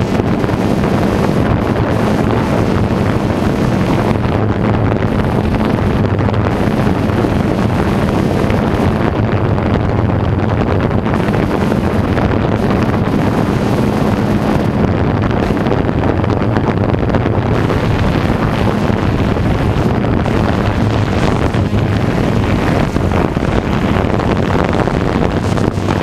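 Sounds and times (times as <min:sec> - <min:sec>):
drone motors humming: 0:00.0 - 0:26.0
wind noise on microphone: 0:00.0 - 0:26.0.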